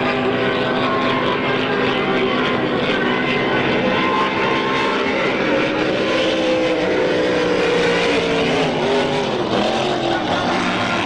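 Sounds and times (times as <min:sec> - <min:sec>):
powerboat engines droning: 0:00.0 - 0:11.0.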